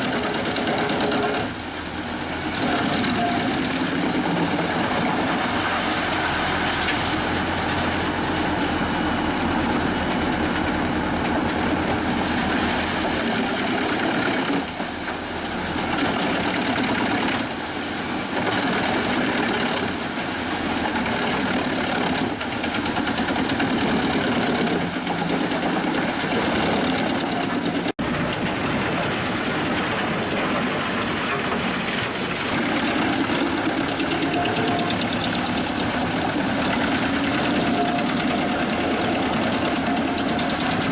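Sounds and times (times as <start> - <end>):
wood chipper and tractor engine: 0.0 - 40.9.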